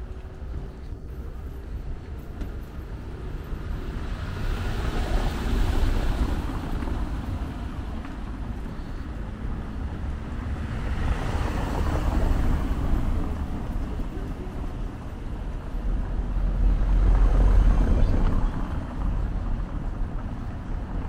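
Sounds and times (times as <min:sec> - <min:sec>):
steady low traffic rumble: 0:00.0 - 0:21.0
vehicles passing: 0:00.0 - 0:21.0.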